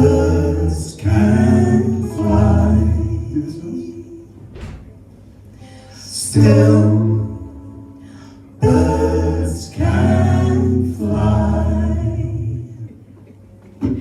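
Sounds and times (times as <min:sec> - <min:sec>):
a cappella voices singing: 0:00.0 - 0:04.8, 0:05.7 - 0:13.1.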